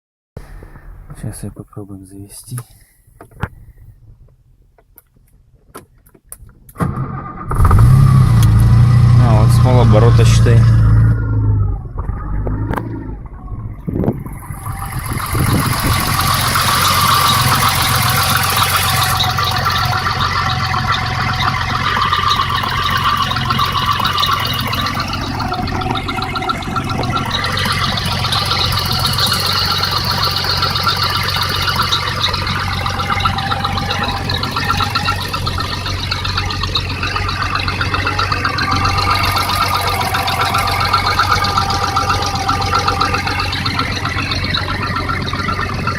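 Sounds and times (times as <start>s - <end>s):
car engine idling: 0.4s - 3.9s, 7.5s - 45.9s.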